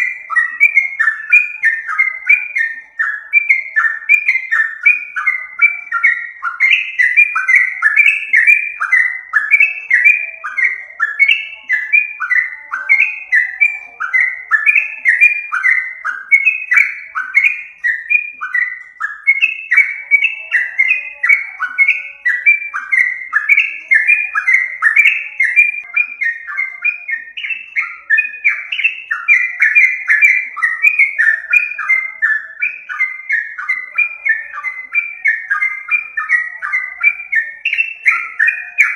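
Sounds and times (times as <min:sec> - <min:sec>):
bird calls: 0:00.0 - 0:38.9.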